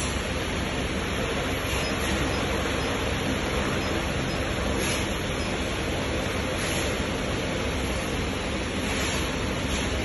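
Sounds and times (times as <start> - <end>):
cooling system rushing noise: 0.0 - 10.0.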